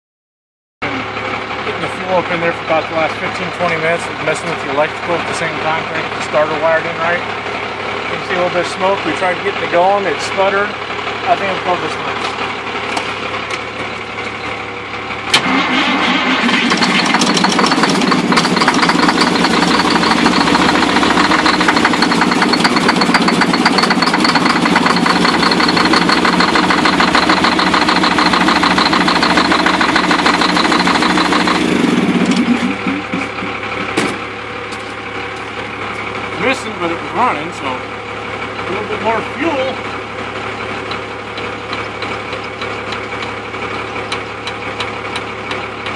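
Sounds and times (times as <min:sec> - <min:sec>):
diesel engine cranking: 0:00.8 - 0:45.9.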